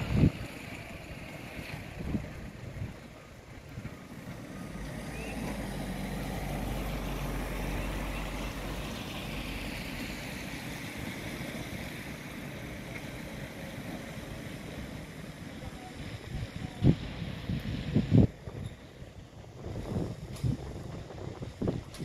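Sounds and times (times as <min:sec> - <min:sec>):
wind buffeting microphone: 0:00.0 - 0:12.5, 0:15.0 - 0:22.0
engine passing by: 0:00.0 - 0:18.3.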